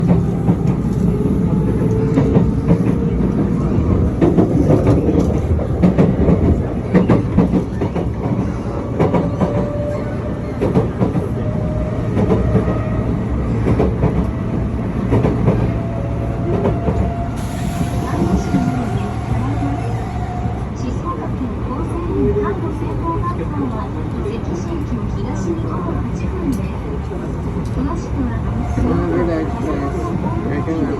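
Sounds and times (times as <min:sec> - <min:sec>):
train rumbling on rails: 0:00.0 - 0:30.9.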